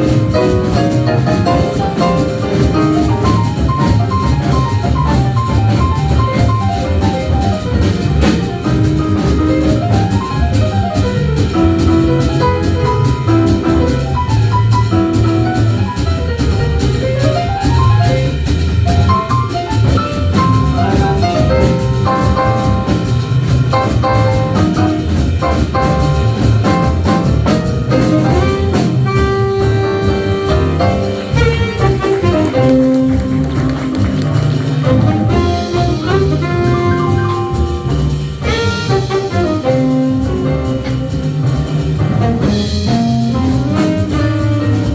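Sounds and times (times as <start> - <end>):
drum kit: 0.0 - 44.9
jazz horns: 0.0 - 44.9.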